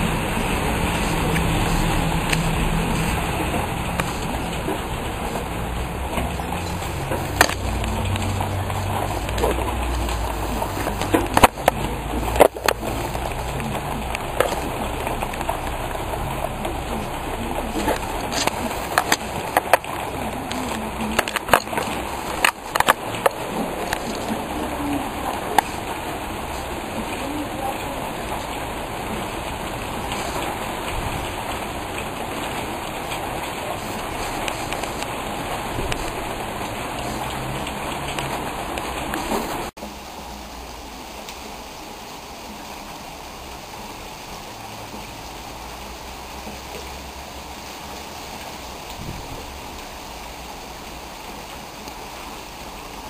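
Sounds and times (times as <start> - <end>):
rain on a street: 0.0 - 53.0.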